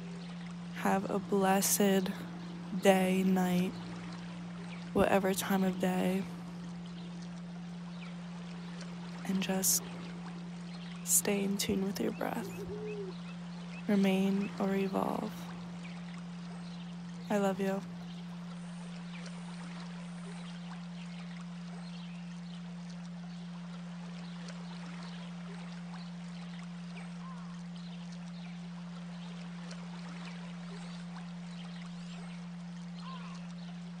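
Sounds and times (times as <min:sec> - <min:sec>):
constant low hum: 0:00.0 - 0:34.0.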